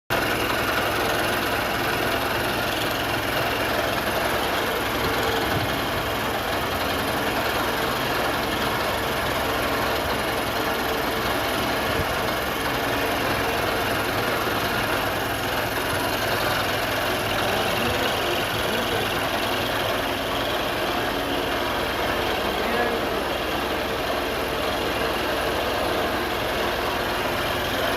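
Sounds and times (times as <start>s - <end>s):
metalworking machinery running: 0.1s - 27.9s.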